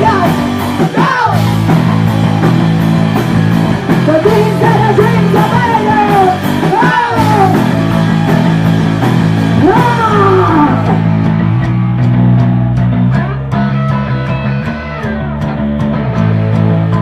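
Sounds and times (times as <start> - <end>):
bass guitar: 0.0 - 17.0
electric guitar chords: 0.0 - 17.0.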